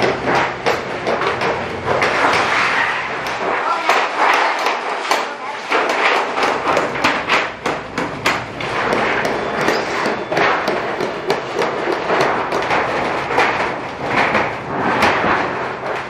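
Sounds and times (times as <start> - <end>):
hand shears snipping metal sheet: 0.0 - 16.0
metal sheet flexing rattle: 0.0 - 16.0.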